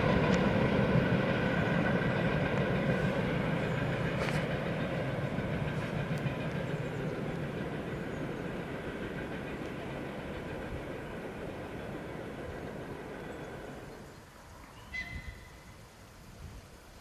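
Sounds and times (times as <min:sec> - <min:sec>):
train rolling on track: 0:00.0 - 0:17.0.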